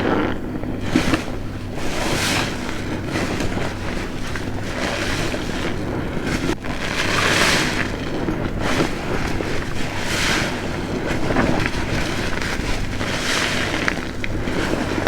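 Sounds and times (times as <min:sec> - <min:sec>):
foam hissing: 0:00.0 - 0:15.0
sponge squelching: 0:00.0 - 0:15.0.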